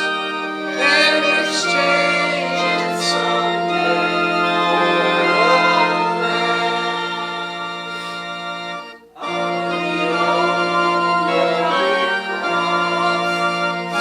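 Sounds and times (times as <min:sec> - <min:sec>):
organ playing a hymn: 0:00.0 - 0:14.0
voices singing along: 0:00.0 - 0:14.0.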